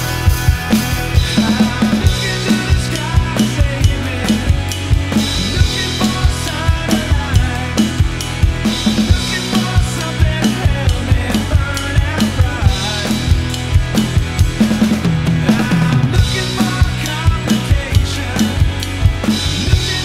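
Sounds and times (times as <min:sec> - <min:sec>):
drum kit beat: 0:00.0 - 0:20.0
recorded song: 0:00.0 - 0:20.0.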